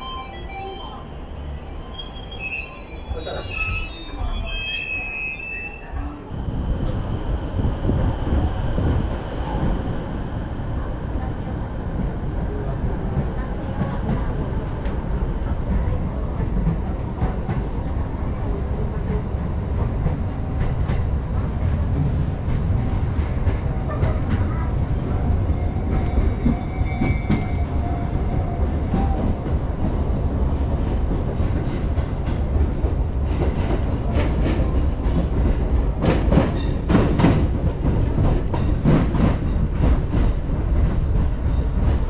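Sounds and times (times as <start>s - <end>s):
train wheels rumbling on rails: 0.9s - 42.0s.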